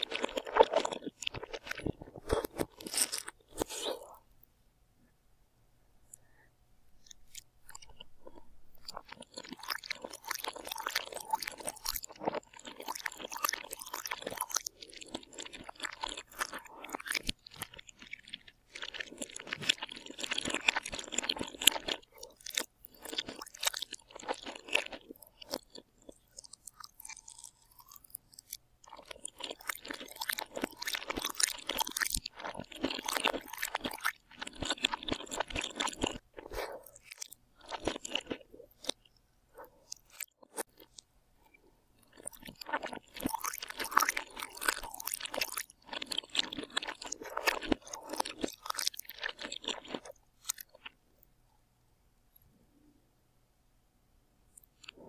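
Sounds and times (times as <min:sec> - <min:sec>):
person chewing crunchy food: 0:00.0 - 0:04.3, 0:07.0 - 0:51.0, 0:54.5 - 0:55.0.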